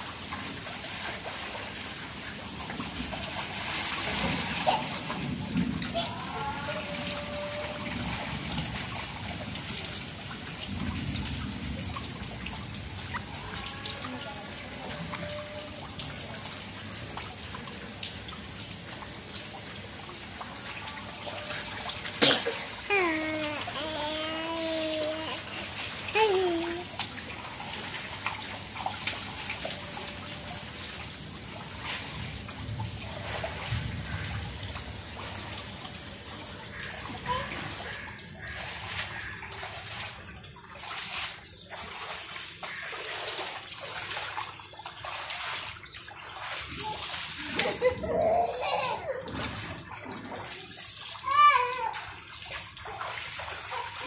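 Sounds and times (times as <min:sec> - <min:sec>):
feet wading through water: 0:00.0 - 0:54.0
rain falling into water: 0:00.0 - 0:54.0.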